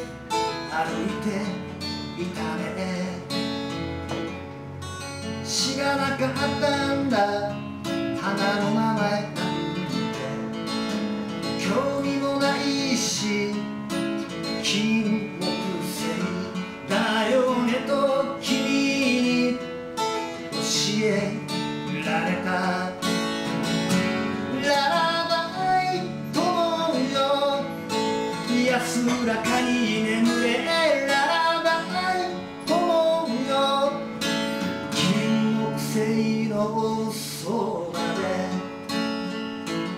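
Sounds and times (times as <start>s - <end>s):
man singing: 0.0s - 3.8s, 5.4s - 39.1s
acoustic guitar strumming: 0.0s - 39.9s.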